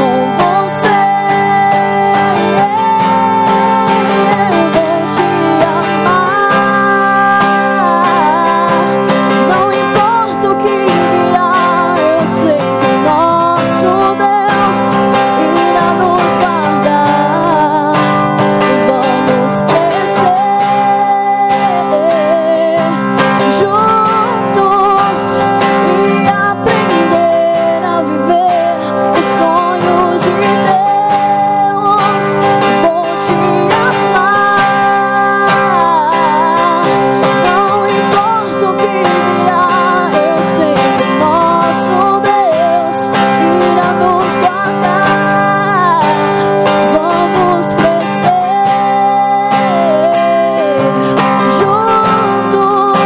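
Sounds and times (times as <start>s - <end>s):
acoustic guitar strumming: 0.0s - 53.0s
woman singing: 0.0s - 53.0s.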